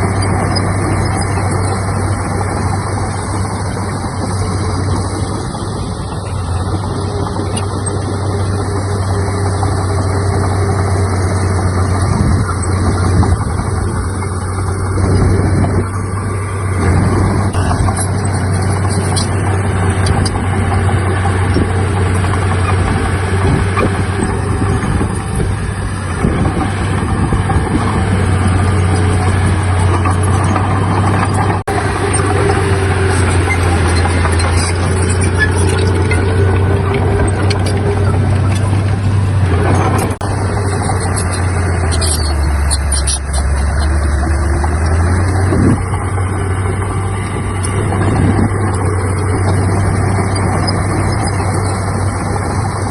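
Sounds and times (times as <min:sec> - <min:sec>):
heavy diesel engine droning: 0:00.0 - 0:52.9.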